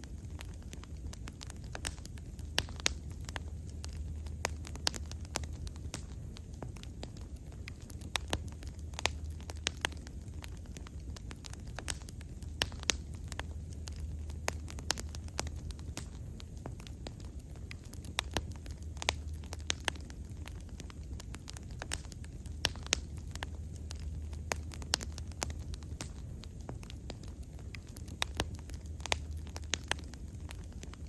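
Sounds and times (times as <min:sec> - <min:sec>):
bonfire crackling and popping: 0:00.0 - 0:31.0
low rumble of flames: 0:00.0 - 0:31.0.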